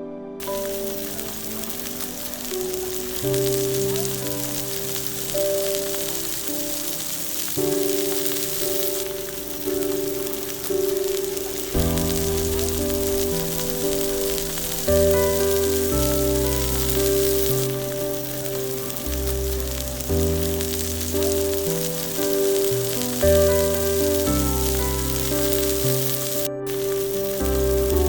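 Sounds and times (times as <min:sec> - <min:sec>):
beef sizzling on hot stone: 0:00.4 - 0:28.0.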